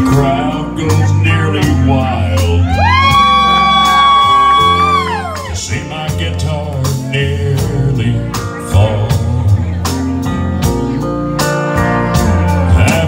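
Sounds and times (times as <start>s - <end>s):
country band playing: 0.0s - 13.0s.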